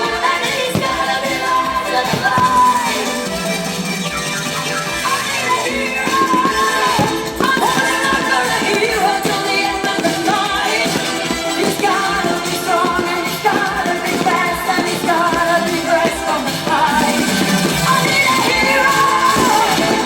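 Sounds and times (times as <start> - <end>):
pop music with singing: 0.0 - 20.0.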